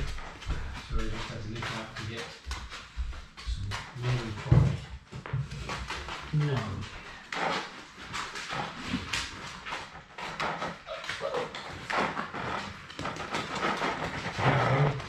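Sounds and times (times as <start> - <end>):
puppies moving on hard floor: 0.0 - 15.0.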